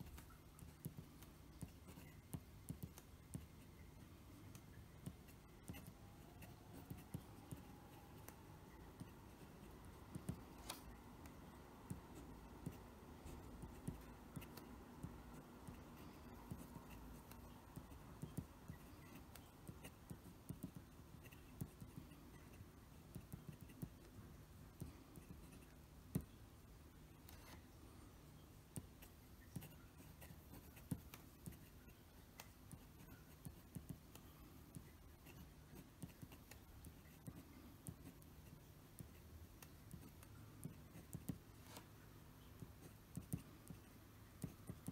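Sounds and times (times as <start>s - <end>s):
pen nib scratching on paper: 0.0s - 26.4s, 27.2s - 27.6s, 28.7s - 44.9s.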